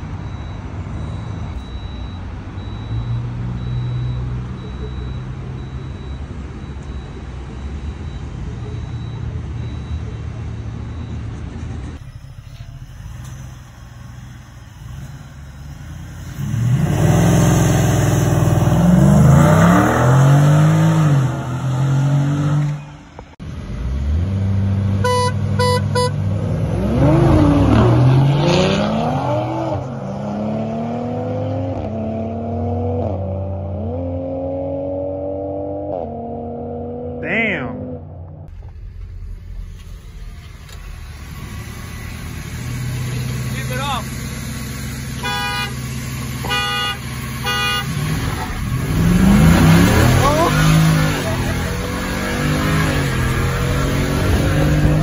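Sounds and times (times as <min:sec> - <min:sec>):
truck engine idling and revving: 0:00.0 - 0:55.0.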